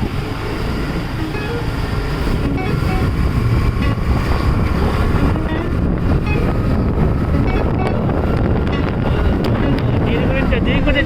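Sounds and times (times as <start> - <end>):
motorbike engine and road noise: 0.0 - 11.0
wind buffeting microphone: 0.0 - 11.0.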